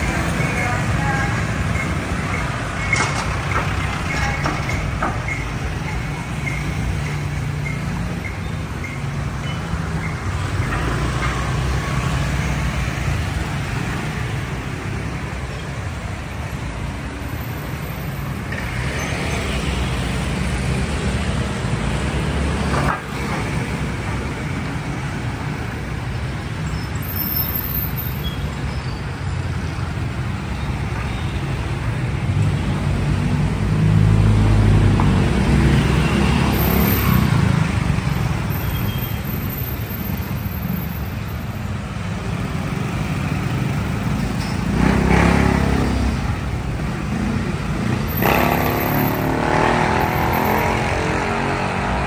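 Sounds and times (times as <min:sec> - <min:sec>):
vehicle engines rumbling: 0:00.0 - 0:52.0.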